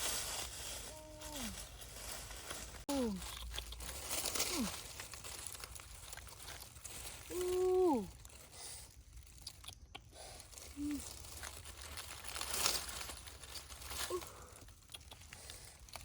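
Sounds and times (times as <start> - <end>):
leaves rustling and tearing: 0.0 - 16.0.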